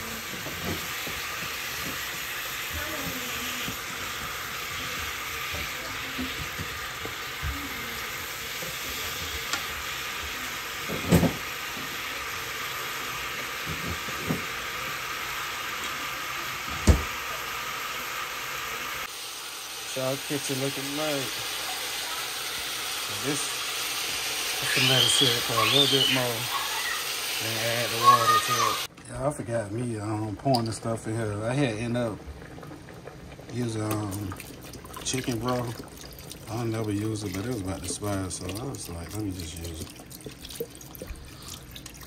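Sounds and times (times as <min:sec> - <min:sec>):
food sizzling in a frying pan: 0:00.0 - 0:28.9, 0:29.9 - 0:42.0.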